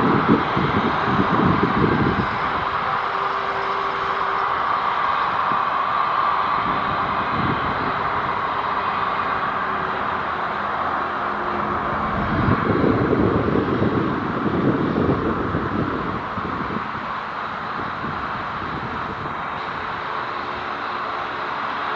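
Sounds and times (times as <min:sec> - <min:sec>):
jet engines at takeoff power: 0:00.0 - 0:21.9.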